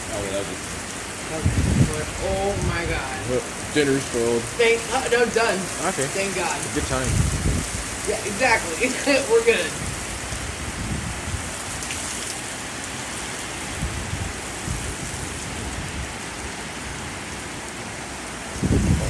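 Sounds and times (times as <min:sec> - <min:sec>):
heavy rain hissing: 0:00.0 - 0:19.0
low rumbling wind: 0:00.0 - 0:19.0.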